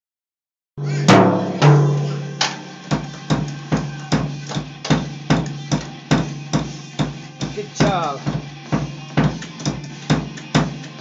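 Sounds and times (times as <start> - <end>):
drum kit hits: 0.8 - 11.0.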